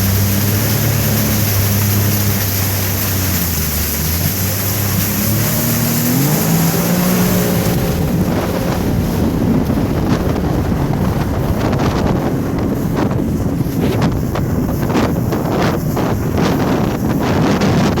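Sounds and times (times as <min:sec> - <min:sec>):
jet ski engine: 0:00.0 - 0:18.0
wind noise on microphone: 0:00.0 - 0:18.0.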